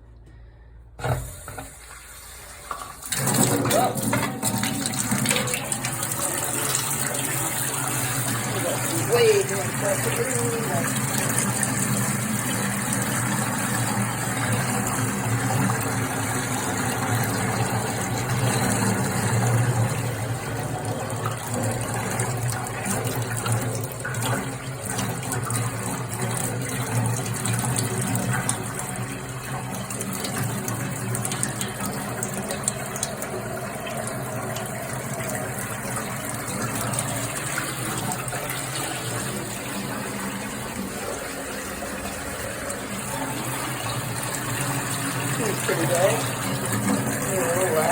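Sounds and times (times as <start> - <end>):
water rushing from outlet: 1.0 - 47.9.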